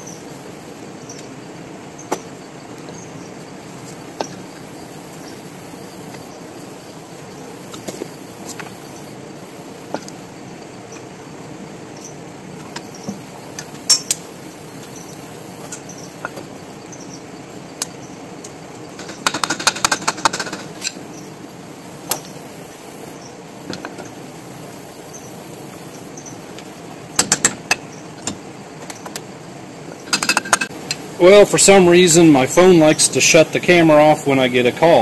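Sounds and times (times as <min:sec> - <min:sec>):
steady low hiss: 0:00.0 - 0:19.0, 0:20.5 - 0:35.0.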